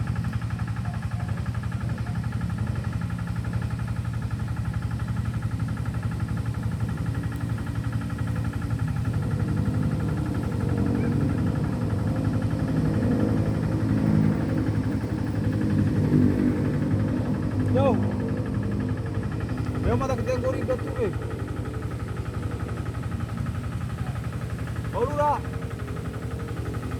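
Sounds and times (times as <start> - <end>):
small engine puttering: 0.0 - 26.9.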